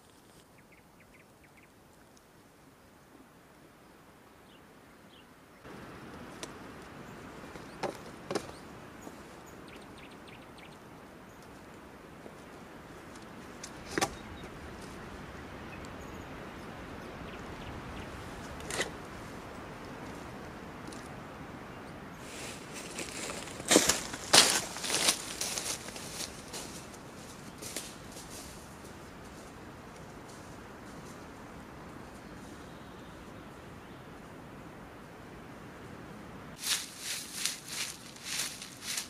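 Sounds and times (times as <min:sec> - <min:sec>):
outdoor background hiss: 0:00.0 - 0:39.0.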